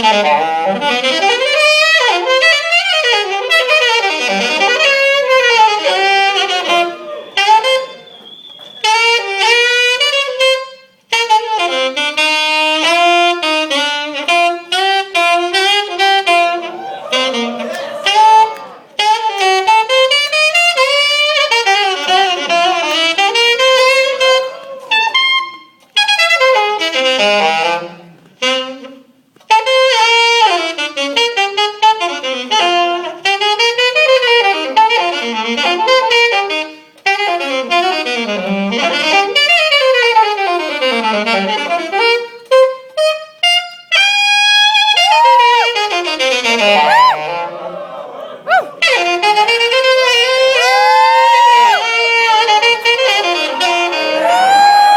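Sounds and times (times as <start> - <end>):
jazz saxophone solo: 0.0 - 47.5, 48.5 - 54.9.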